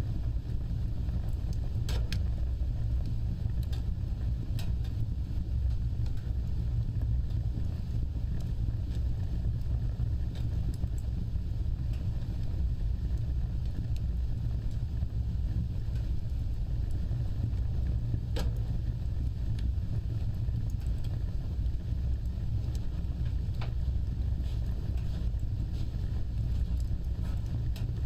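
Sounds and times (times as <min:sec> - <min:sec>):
fire crackling and popping: 0:00.0 - 0:28.0
wood fire roaring: 0:00.0 - 0:28.0.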